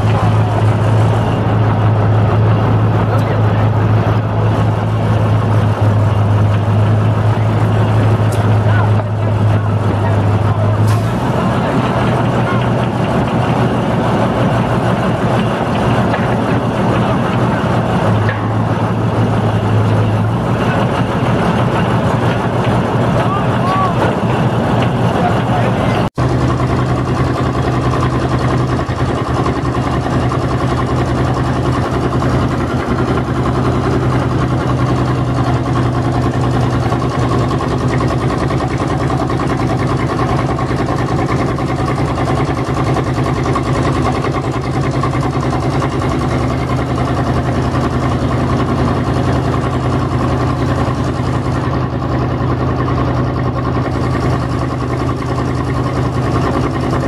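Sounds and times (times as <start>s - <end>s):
crane engine humming steadily: 0.0s - 57.0s.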